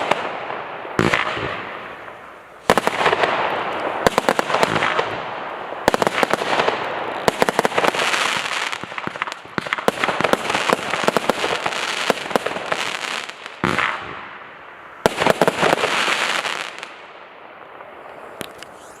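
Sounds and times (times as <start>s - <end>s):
fireworks exploding and crackling: 0.0s - 19.0s.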